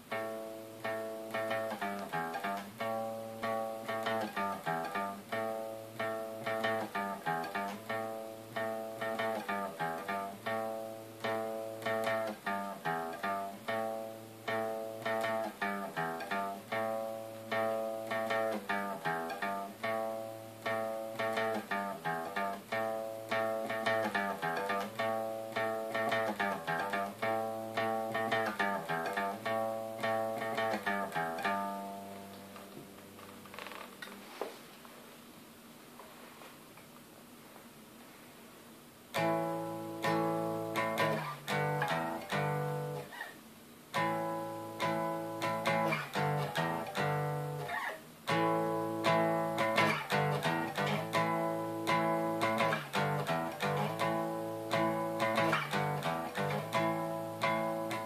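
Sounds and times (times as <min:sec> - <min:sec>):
guitar power-chord riff: 0:00.0 - 0:32.7, 0:39.1 - 0:43.1, 0:43.9 - 0:58.0.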